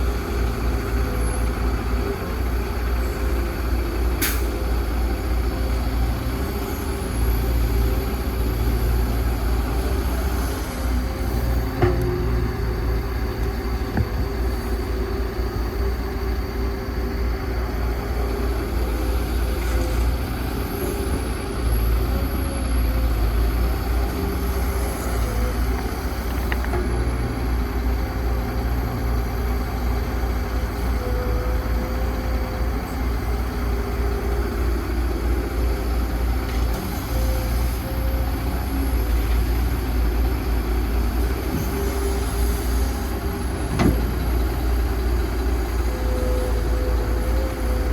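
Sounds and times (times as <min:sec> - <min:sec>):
excavator diesel engine rumbling: 0:00.0 - 0:47.9.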